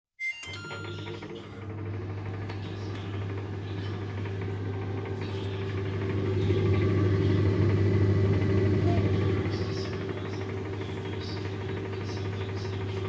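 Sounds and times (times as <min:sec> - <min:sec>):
microwave oven humming: 0:00.2 - 0:13.0.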